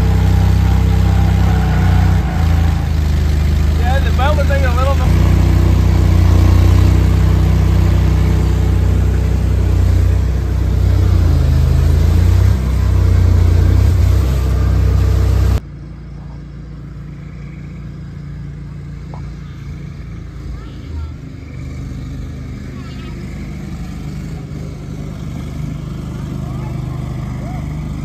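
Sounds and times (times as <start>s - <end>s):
quiet outdoor background: 0.0s - 28.0s
vehicle engine running: 0.0s - 28.0s.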